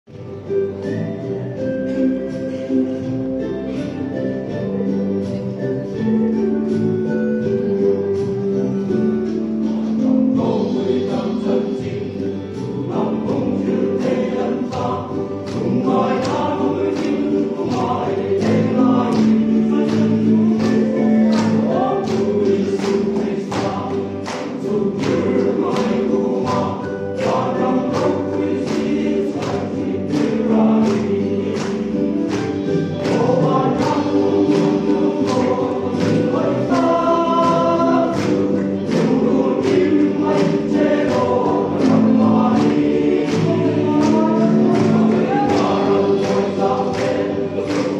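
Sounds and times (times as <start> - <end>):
regular beat: 1.9 - 47.9
men's choir singing a hymn: 9.2 - 47.9.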